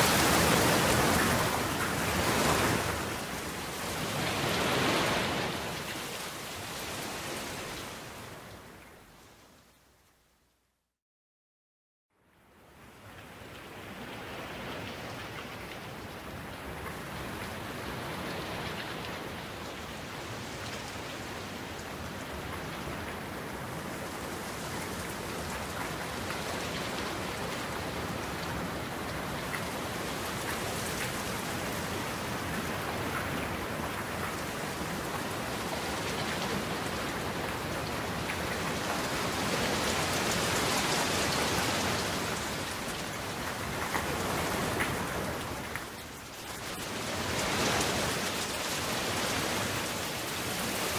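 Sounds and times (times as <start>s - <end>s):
steady rain: 0.0s - 10.9s, 12.2s - 50.9s.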